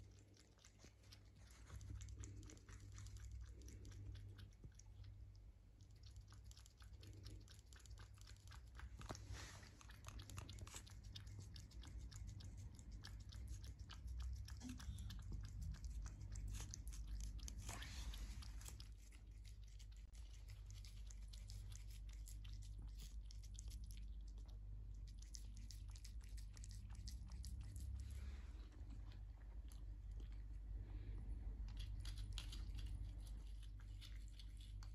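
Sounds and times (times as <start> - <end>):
cat chewing and licking: 0.0 - 34.9
low steady hum: 0.0 - 34.9.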